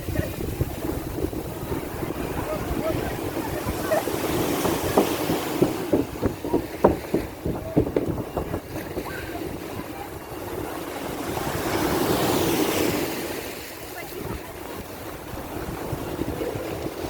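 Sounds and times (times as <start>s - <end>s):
sea water splashing: 0.0s - 17.0s
wind on microphone: 0.0s - 17.0s.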